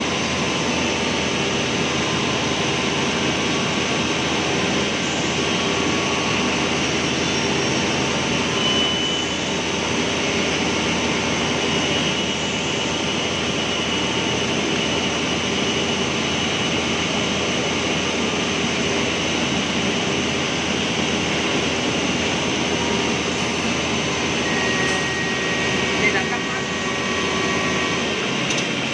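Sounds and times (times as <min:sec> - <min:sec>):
woodworking machine running: 0:00.0 - 0:28.9.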